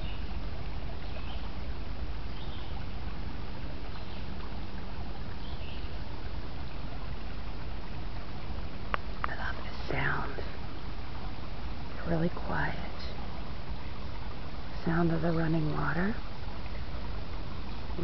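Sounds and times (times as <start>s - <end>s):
creek water trickling over rocks: 0.0s - 18.0s.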